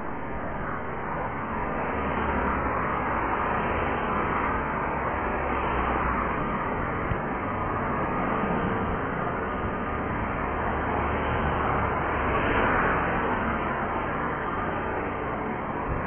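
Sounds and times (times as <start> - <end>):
cars passing close by: 0.0 - 16.0.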